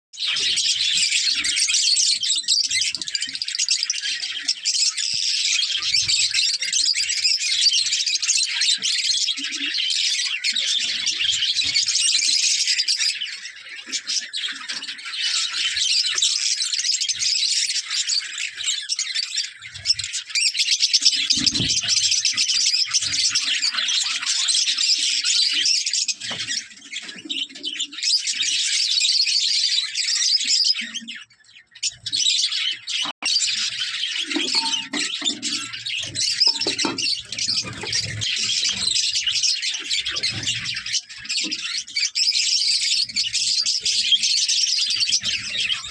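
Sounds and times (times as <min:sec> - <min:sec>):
lovebirds chattering and chirping: 0:00.2 - 0:45.9.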